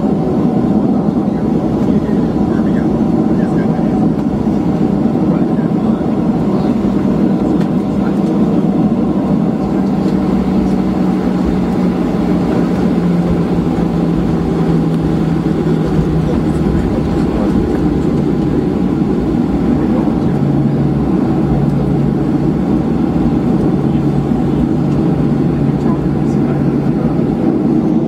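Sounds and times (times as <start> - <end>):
aircraft cabin rumble: 0.0 - 28.0
low hum: 0.0 - 28.0.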